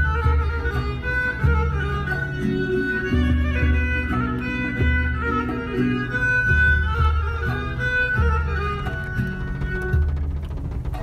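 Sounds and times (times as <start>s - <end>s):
melody over low bass line: 0.0s - 11.0s.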